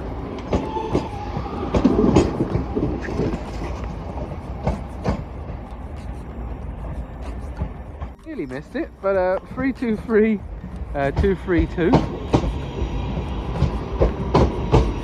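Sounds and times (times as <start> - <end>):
train rumbling: 0.0 - 15.0
train wheels clicking over rail joints: 0.0 - 15.0.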